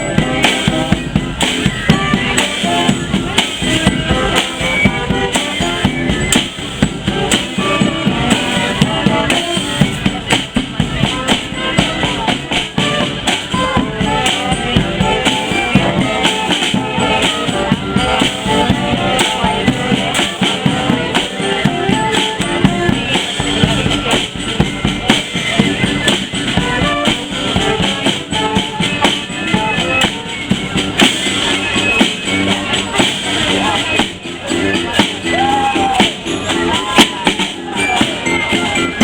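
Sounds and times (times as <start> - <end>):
drums and percussion beat: 0.0 - 39.0
street band playing: 0.0 - 39.0.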